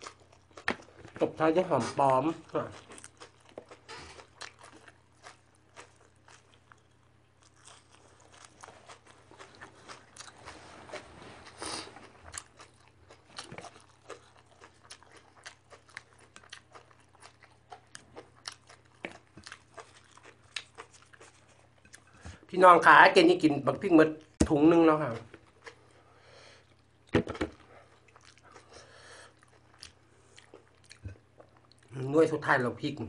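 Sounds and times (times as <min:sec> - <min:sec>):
person chewing crunchy vegetables: 0:00.0 - 0:22.5, 0:25.1 - 0:32.0.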